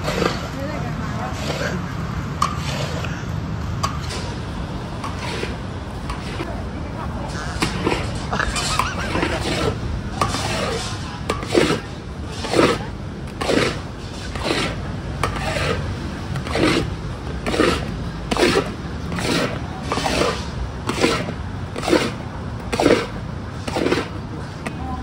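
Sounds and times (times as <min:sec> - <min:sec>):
metal paddle scraping wok: 0:00.0 - 0:03.2, 0:03.8 - 0:06.5, 0:07.2 - 0:24.7.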